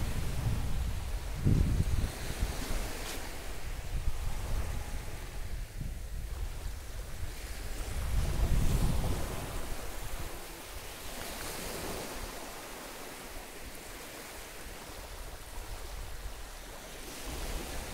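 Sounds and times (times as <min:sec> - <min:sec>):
small waves lapping on beach: 0:00.0 - 0:17.9
wind rumble on microphone: 0:00.0 - 0:17.9.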